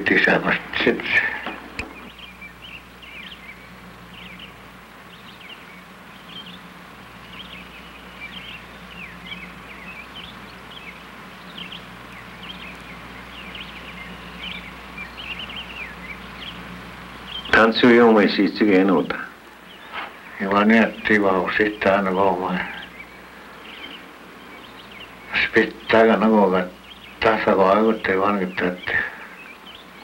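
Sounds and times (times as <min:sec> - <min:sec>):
low steady hum: 0:00.0 - 0:30.0
small birds chirping: 0:00.0 - 0:30.0.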